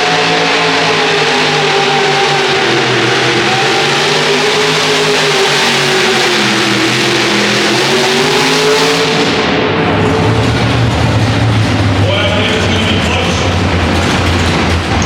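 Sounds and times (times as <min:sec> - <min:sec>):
pulling tractor engine at full throttle: 0:00.0 - 0:15.0.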